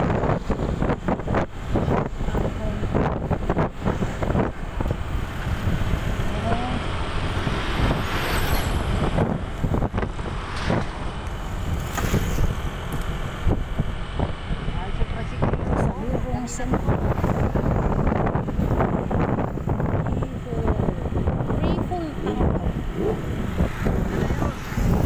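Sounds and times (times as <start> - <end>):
motorcycle engine: 0.0 - 25.0
tyres on road: 0.0 - 25.0
wind buffeting microphone: 0.0 - 25.0.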